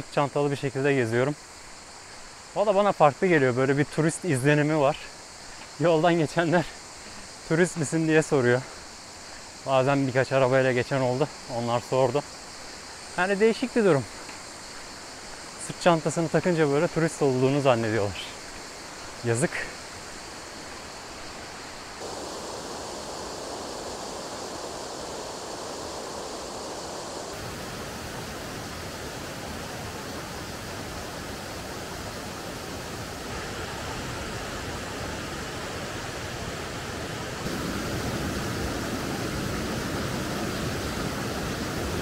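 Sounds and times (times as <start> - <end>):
water rushing down cascade: 5.7 - 42.0.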